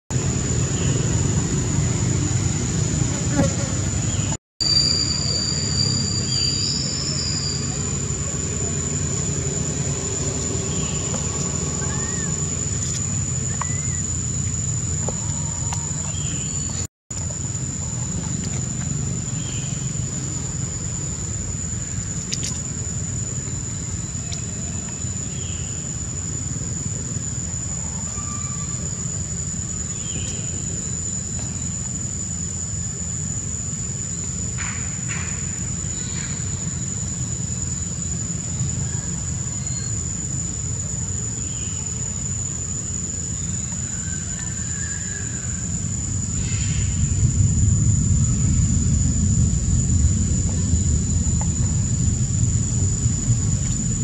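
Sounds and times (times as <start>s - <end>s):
high-pitched insect drone: 0.2s - 54.0s
constant low rumble: 5.0s - 54.0s.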